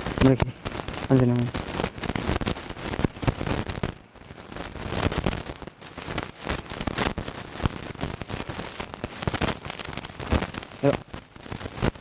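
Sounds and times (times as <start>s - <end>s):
crackling static: 0.0s - 12.0s.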